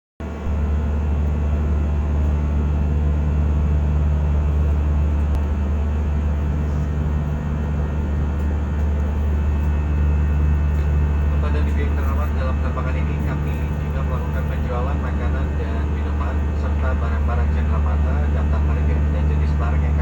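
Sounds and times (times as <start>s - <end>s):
airliner cabin drone: 0.2s - 20.0s.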